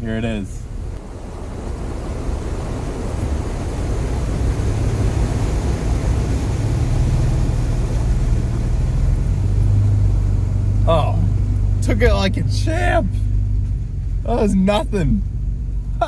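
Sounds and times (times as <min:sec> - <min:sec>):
water splashing around tyres: 0:00.0 - 0:16.0
truck engine running slowly: 0:00.5 - 0:16.0
creek rushing: 0:00.6 - 0:16.0.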